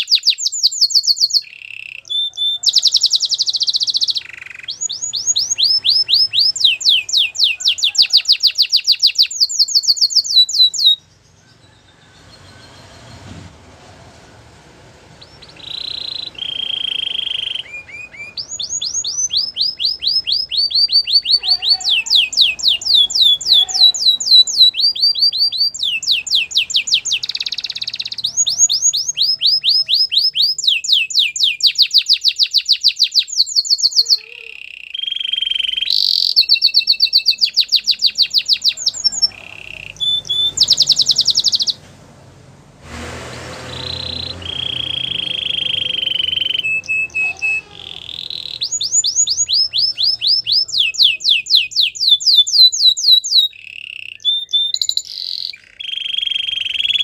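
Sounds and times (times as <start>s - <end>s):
canary singing trills: 0.0s - 13.3s, 15.0s - 41.9s, 43.3s - 57.0s.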